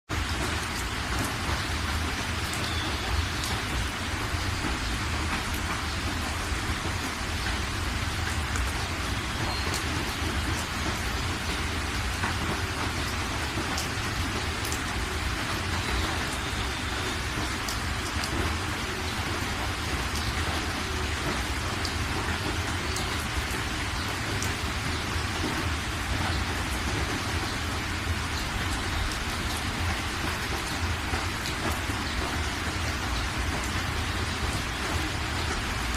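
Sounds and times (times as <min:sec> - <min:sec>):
heavy rain pouring: 0:00.1 - 0:35.9.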